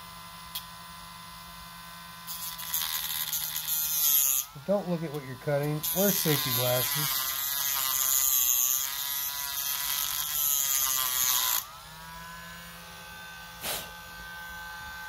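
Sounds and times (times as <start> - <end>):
rotary tool motor running freely: 0.0 - 15.0
rotary tool grinding metal: 2.2 - 15.0.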